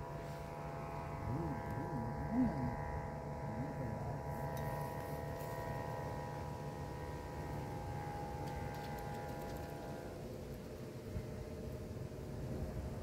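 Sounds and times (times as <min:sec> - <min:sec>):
hum of held tones: 0:00.0 - 0:13.0
wind rumbling on microphone: 0:00.0 - 0:13.0.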